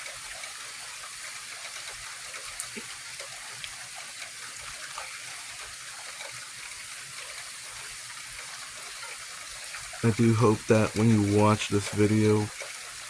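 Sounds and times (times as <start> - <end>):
raindrops ticking: 0.0 - 13.0
steady rain hissing: 0.0 - 13.0.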